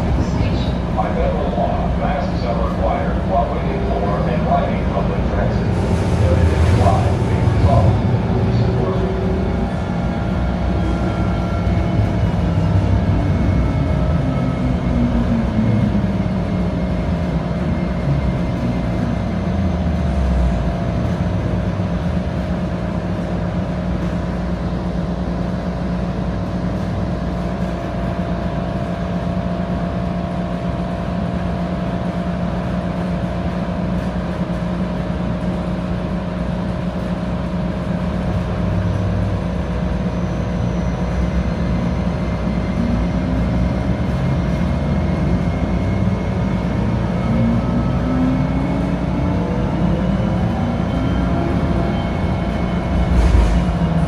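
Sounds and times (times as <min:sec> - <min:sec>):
light-rail drive whining: 0:00.0 - 0:54.0.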